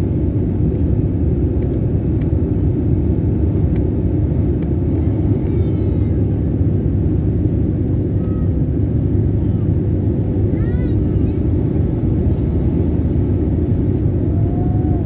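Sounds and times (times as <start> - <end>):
constant hum: 0.0 - 15.0
jet engines and airflow rumble: 0.0 - 15.0.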